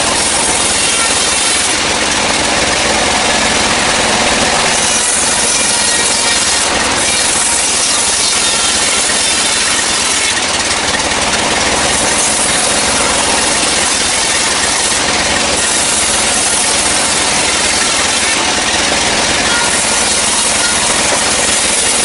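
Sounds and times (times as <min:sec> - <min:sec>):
band saw cutting timber: 0:00.0 - 0:22.0
machine drive noise: 0:00.0 - 0:22.0.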